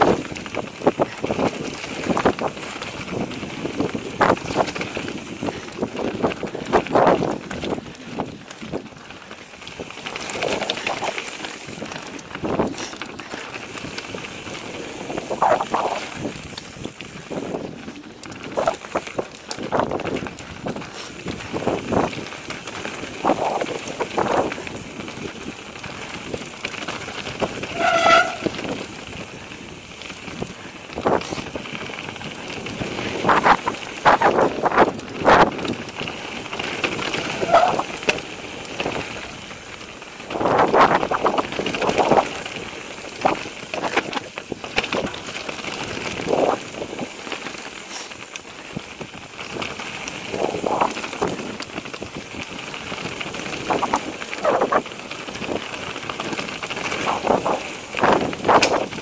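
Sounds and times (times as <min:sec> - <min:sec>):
bike rattling over bumps: 0:00.0 - 0:59.0
bike tyres on loose stone: 0:00.0 - 0:59.0
wind noise on microphone: 0:00.0 - 0:59.0.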